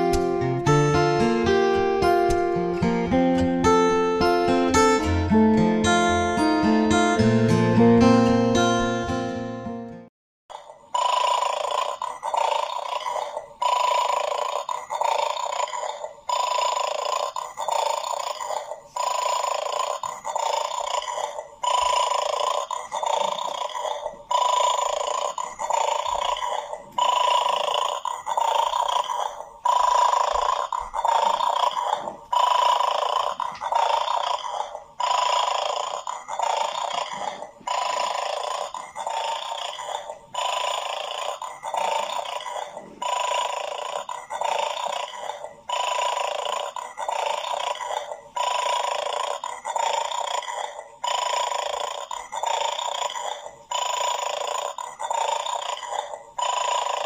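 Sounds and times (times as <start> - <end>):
pet eating: 10.5 - 57.0.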